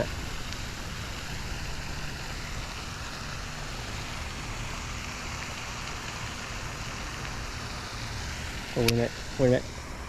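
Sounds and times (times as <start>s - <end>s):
even hiss: 0.0s - 10.0s.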